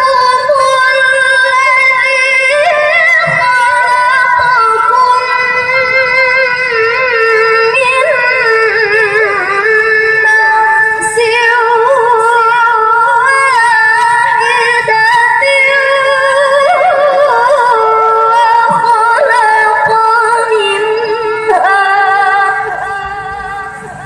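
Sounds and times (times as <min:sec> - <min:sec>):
woman chanting recitation: 0:00.0 - 0:24.0.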